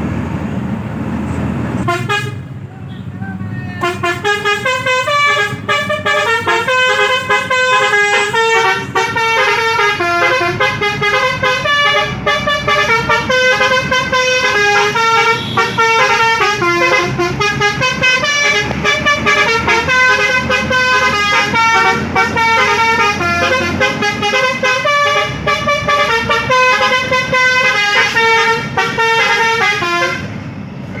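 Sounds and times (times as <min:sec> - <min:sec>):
multi-tone bus air horn tune: 0:01.8 - 0:30.4.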